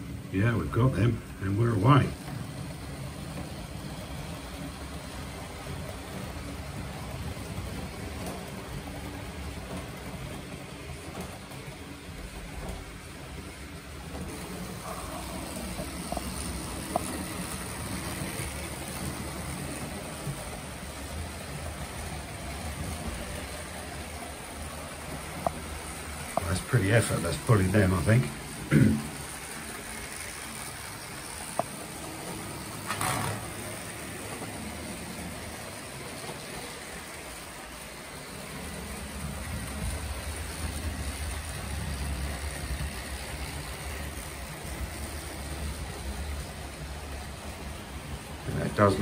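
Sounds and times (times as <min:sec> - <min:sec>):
model train motor whir: 0:00.0 - 0:49.0.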